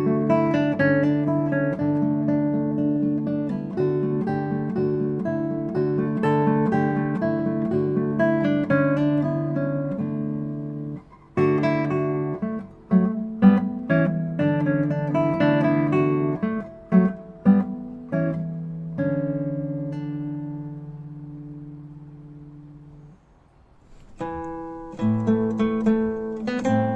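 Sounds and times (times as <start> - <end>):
solo acoustic guitar: 0.0 - 26.9.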